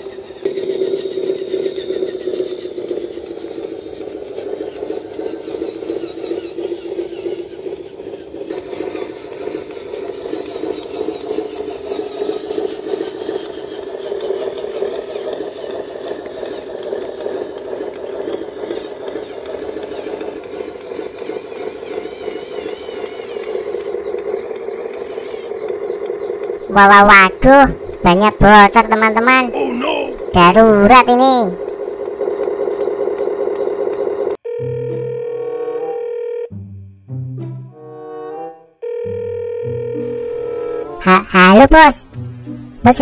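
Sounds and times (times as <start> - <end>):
model truck engine drone: 0.0 - 36.4.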